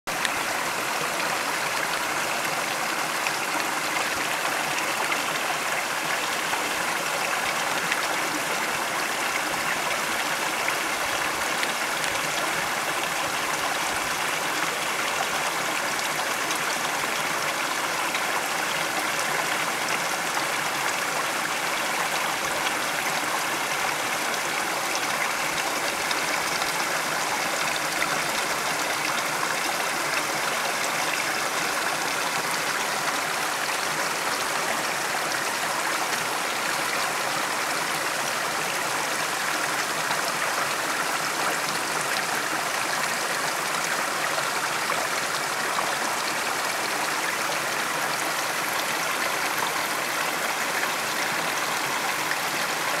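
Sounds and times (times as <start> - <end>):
stream water running over rocks: 0.1 - 53.0.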